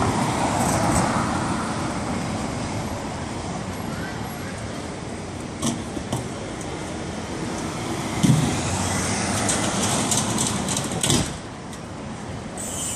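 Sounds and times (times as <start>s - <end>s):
bus engine rumbling: 0.0s - 12.9s.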